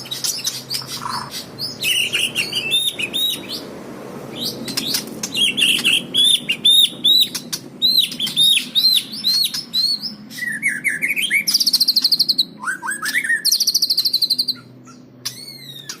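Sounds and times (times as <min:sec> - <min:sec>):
bird singing varied song: 0:00.0 - 0:16.0.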